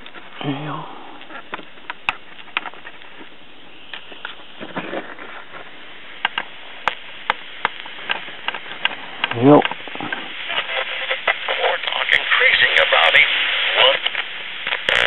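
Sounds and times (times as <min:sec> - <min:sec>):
crackles and pops: 0:00.0 - 0:15.0
radio static hiss: 0:00.0 - 0:15.0.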